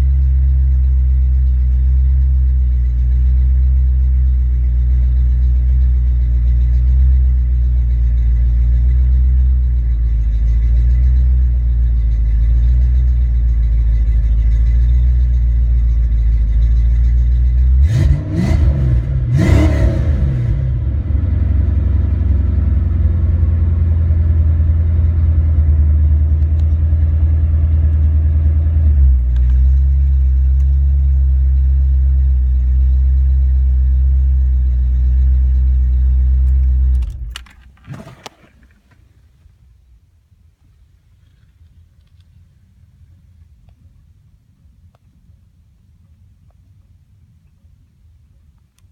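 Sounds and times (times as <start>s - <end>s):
car engine idling and revving: 0.0s - 39.5s.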